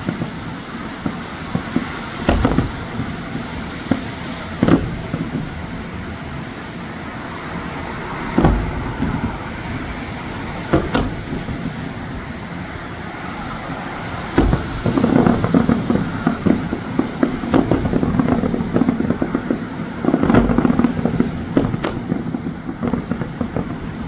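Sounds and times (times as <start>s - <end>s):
background rumble: 0.0s - 24.0s
fireworks bangs: 0.0s - 24.0s.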